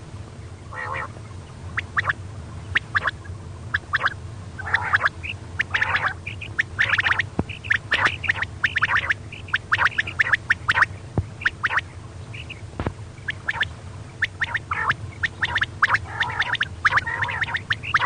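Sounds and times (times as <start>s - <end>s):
steady low hum: 0.0s - 18.0s
quail chirping and squawking: 0.5s - 18.0s.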